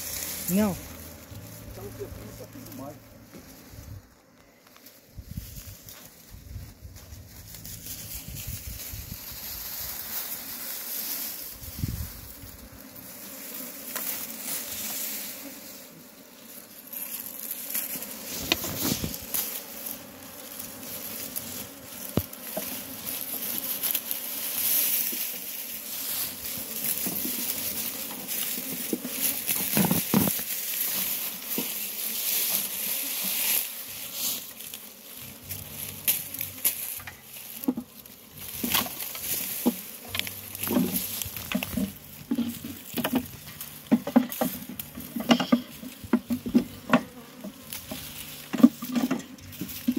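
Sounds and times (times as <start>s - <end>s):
bees buzzing: 0.0s - 49.9s
rustling of dry grass and leaves: 0.0s - 49.9s.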